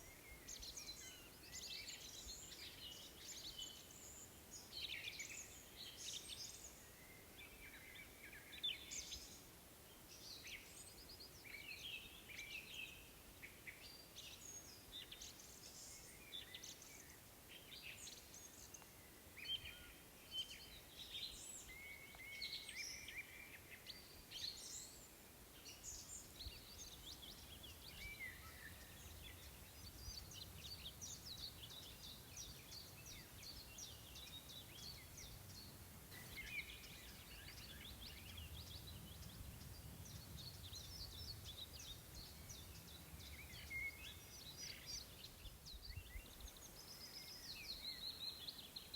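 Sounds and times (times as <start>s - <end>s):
faint songbirds chirping: 0.0s - 48.9s.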